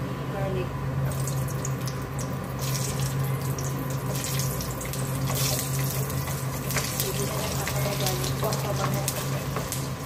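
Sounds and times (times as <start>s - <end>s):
steady low hum: 0.0s - 10.0s
garlic sizzling in fat in a pan: 1.0s - 10.0s.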